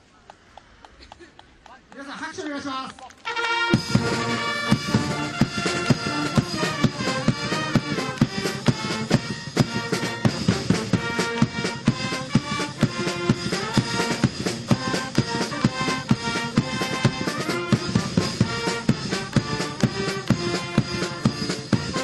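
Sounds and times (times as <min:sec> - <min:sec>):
brass band playing: 0:03.2 - 0:22.0
drum beat: 0:03.5 - 0:22.0.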